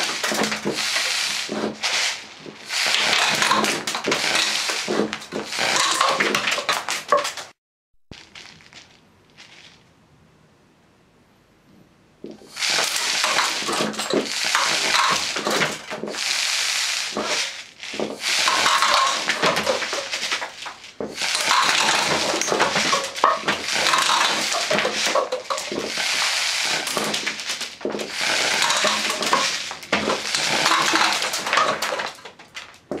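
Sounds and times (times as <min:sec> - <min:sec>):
air gun firing in bursts: 0:00.0 - 0:07.6, 0:12.4 - 0:32.3
shots hitting paper cups: 0:00.0 - 0:08.6, 0:12.3 - 0:33.0.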